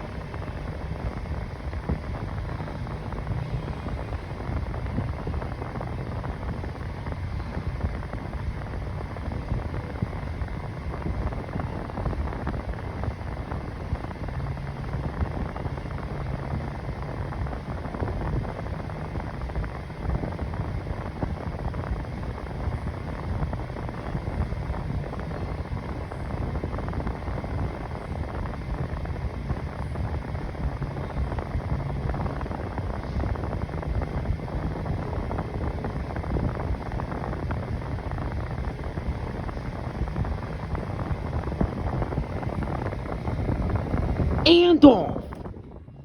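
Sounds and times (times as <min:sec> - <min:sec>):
faint low motor hum: 0:00.0 - 0:46.0
fan rush of air: 0:00.0 - 0:46.0.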